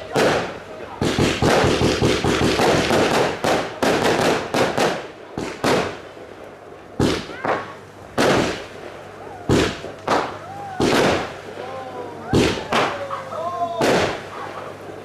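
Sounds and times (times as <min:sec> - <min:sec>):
loud firework shell bursts: 0:00.0 - 0:06.2, 0:07.0 - 0:11.6, 0:12.3 - 0:13.2, 0:13.8 - 0:14.8
fireworks bangs and crackles: 0:00.0 - 0:15.0.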